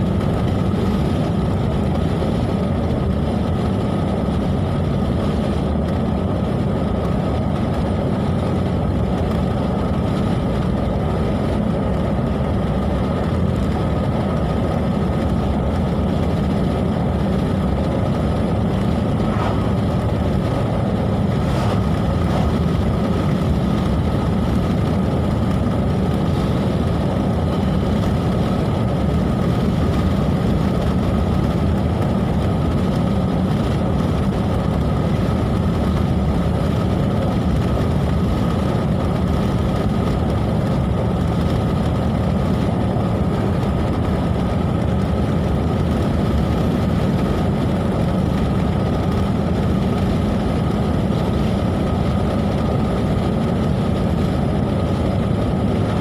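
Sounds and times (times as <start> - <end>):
car engine and tyre noise: 0.0 - 56.0
faint steady whine: 0.0 - 56.0.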